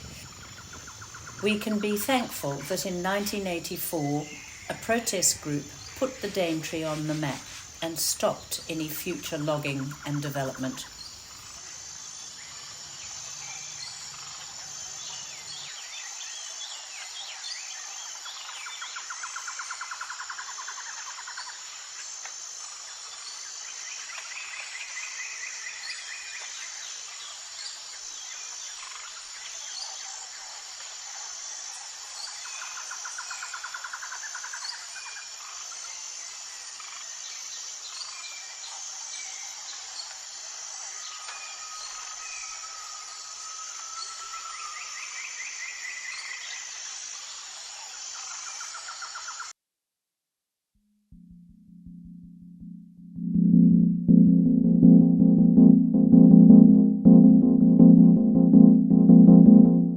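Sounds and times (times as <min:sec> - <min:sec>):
high-pitched insect chorus: 0:00.0 - 0:49.5.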